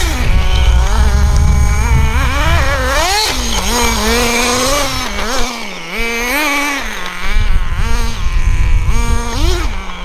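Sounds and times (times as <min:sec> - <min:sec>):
model car engine revving: 0:00.0 - 0:10.0.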